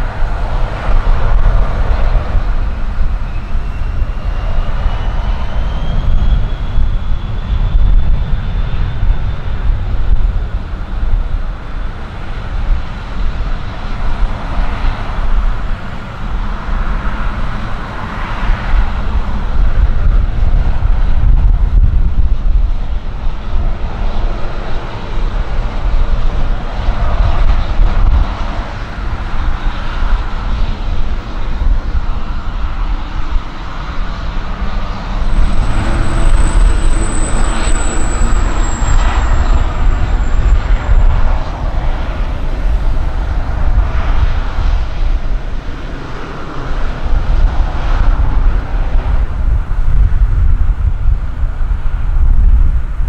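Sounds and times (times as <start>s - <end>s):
distant jet engines: 0.0s - 53.0s
turboprop engines whining: 0.0s - 53.0s
wind rumble on microphone: 0.0s - 53.0s.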